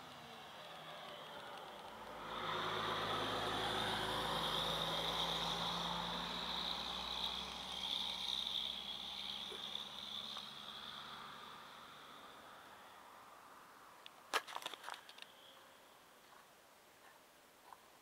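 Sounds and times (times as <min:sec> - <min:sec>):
vehicle engine hum: 0:00.0 - 0:16.3.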